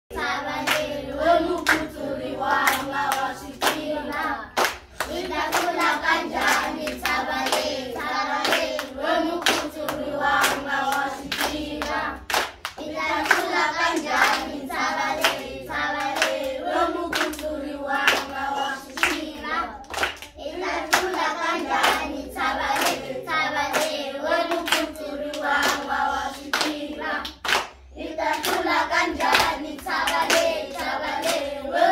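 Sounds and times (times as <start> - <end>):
children singing: 0.1 - 27.4, 28.0 - 31.9
hand claps: 0.6 - 0.9, 1.6 - 1.9, 2.6 - 23.1, 23.7 - 25.9, 26.5 - 31.5.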